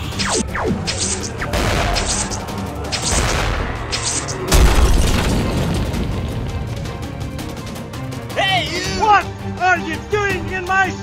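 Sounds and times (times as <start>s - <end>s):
action music with strikes: 0.0s - 11.0s.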